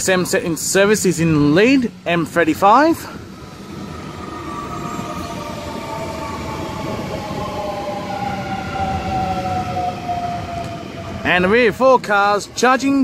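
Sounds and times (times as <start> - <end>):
electric train traction whine: 0.0 - 13.0
train wheels rumbling: 0.0 - 13.0.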